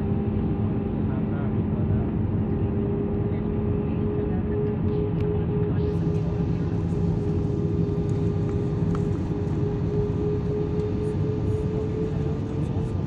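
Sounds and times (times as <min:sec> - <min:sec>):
jet engine drone in cabin: 0:00.0 - 0:13.0.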